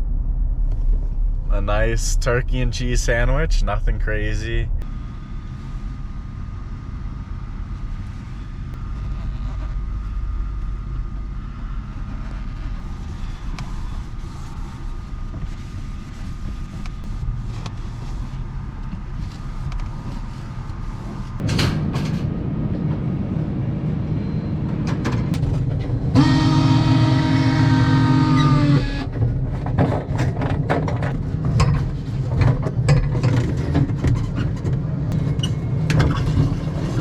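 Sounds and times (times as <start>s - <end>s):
road noise inside cab: 0.0s - 37.0s
truck engine rumble: 0.0s - 37.0s.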